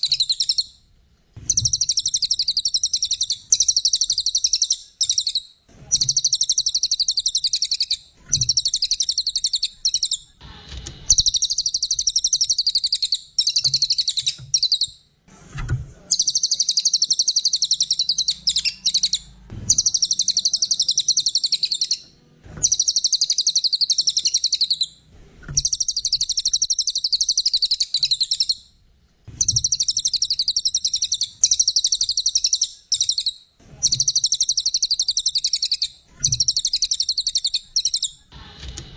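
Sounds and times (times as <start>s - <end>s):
bird singing chattering trill: 0.0s - 0.7s, 1.5s - 10.4s, 11.1s - 15.0s, 16.1s - 25.0s, 25.6s - 28.6s, 29.4s - 38.2s.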